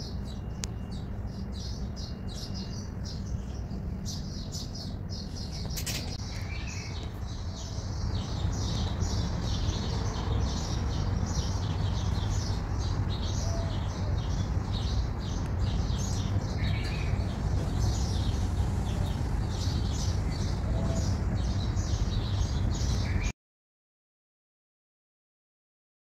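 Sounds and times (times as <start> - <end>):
small birds chirping: 0.0 - 23.3
steady low rumble: 0.0 - 23.3.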